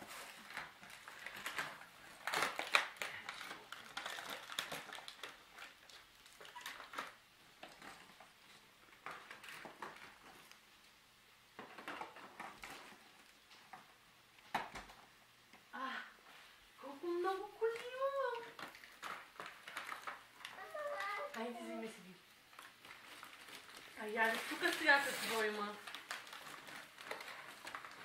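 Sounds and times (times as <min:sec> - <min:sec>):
packaging rustling and crinkling: 0:00.0 - 0:10.6, 0:11.6 - 0:15.2, 0:17.4 - 0:28.0.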